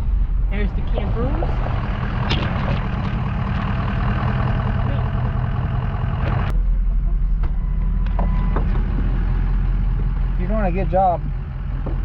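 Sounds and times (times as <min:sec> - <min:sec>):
road and wind noise: 0:00.0 - 0:12.0
truck engine running: 0:00.0 - 0:12.0.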